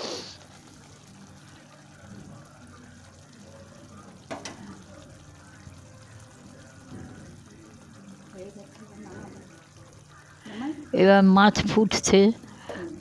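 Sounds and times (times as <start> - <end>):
gravy bubbling: 0.0 - 13.0.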